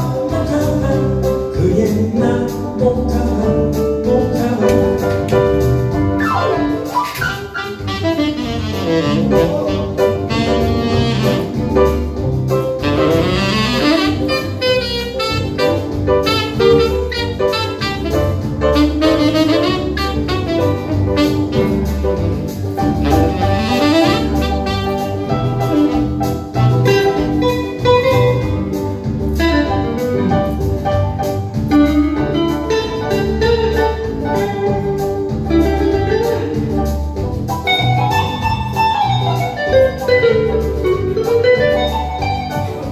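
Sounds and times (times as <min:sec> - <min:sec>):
electric guitar: 0:00.0 - 0:42.9
keyboard playing: 0:00.0 - 0:42.9
steady beat: 0:00.0 - 0:42.9
saxophone: 0:04.6 - 0:42.9.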